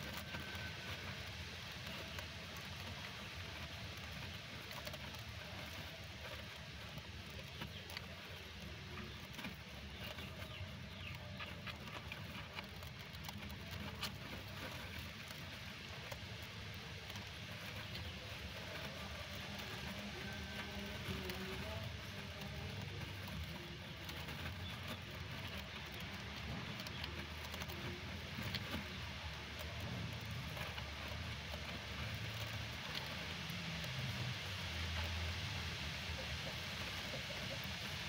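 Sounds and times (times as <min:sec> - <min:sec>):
faint clicks and rustles: 0:00.0 - 0:38.0
low background rumble: 0:00.0 - 0:38.0.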